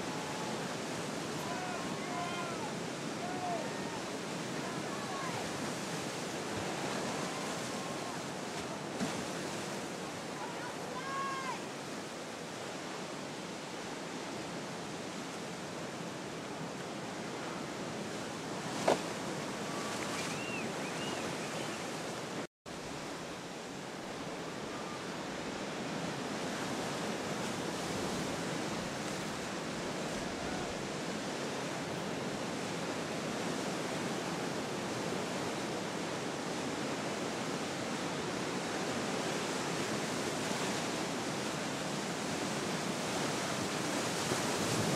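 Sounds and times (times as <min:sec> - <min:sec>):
ocean surf breaking: 0:00.0 - 0:44.9.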